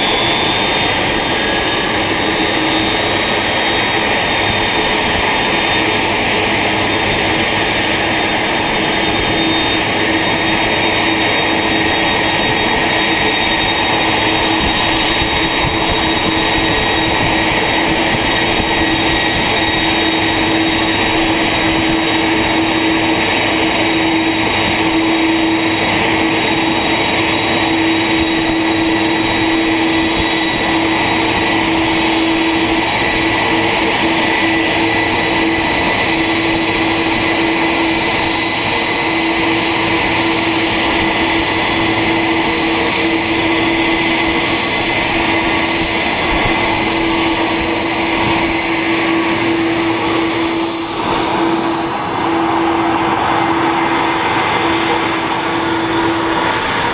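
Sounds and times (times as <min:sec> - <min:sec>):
jet engines idling: 0:00.0 - 0:56.9
tug engine: 0:00.0 - 0:56.9.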